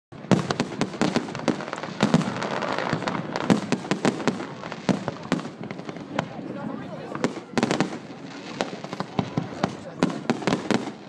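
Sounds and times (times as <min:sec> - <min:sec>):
fireworks bangs and pops: 0:00.1 - 0:11.0
fireworks crackling: 0:00.1 - 0:11.0.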